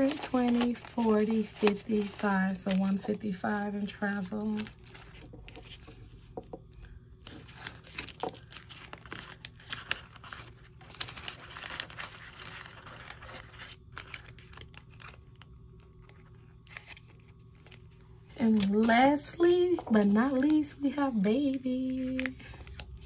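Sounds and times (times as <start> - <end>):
banknotes crinkling and rustling: 0.0 - 23.0.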